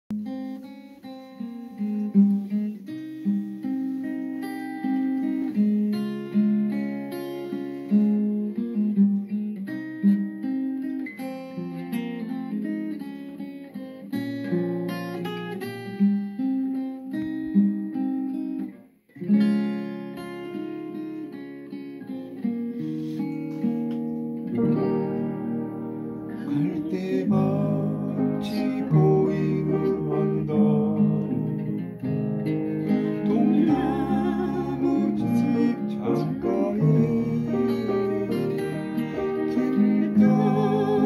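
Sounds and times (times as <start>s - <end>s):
acoustic guitar playing: 0.1s - 41.0s.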